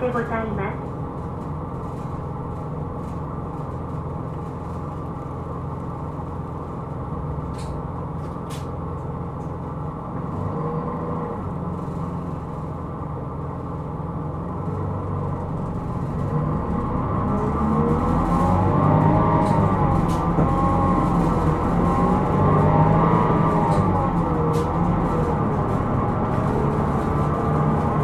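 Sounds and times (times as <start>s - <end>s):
bus engine and road drone: 0.0s - 28.0s
engine whine rising in pitch: 0.0s - 28.0s.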